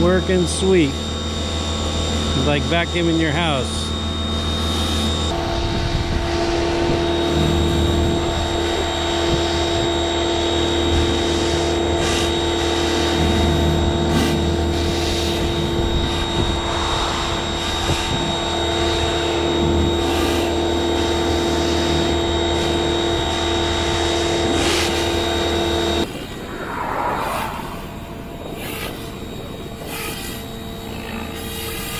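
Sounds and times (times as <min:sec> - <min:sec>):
pressure washer whining: 0:00.0 - 0:05.7, 0:06.8 - 0:31.9.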